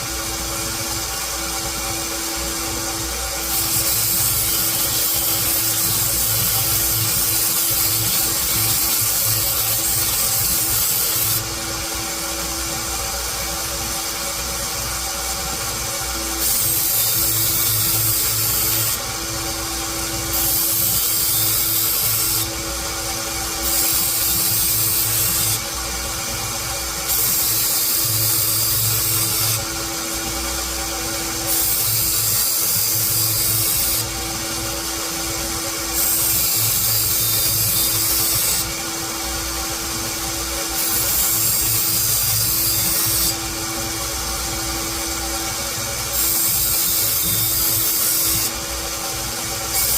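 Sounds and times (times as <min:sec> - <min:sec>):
belt grinder motor hum: 0:02.6 - 0:49.9
blade grinding on belt: 0:02.9 - 0:12.7, 0:13.4 - 0:49.9.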